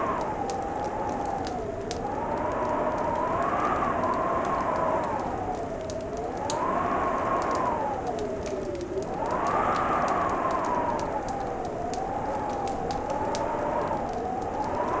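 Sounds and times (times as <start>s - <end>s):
wind howling: 0.0s - 15.0s
wood fire crackling: 0.0s - 15.0s.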